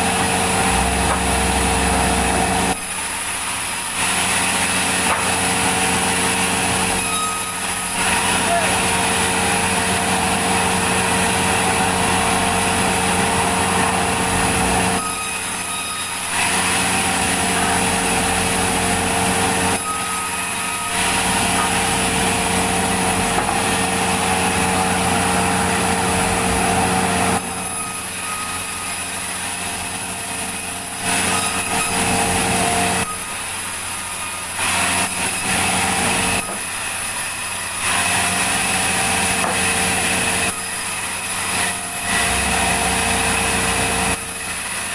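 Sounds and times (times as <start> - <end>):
sawmill machinery sawing logs: 0.0 - 44.9.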